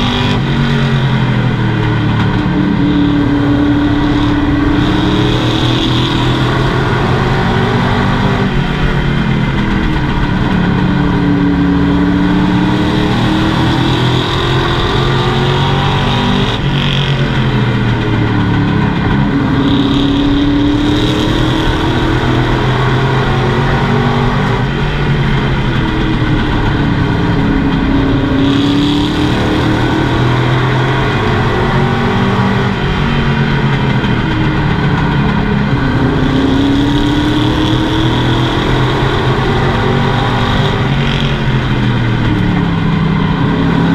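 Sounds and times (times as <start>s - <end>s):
race truck engine revving: 0.0s - 43.9s
wind and road noise: 0.0s - 43.9s.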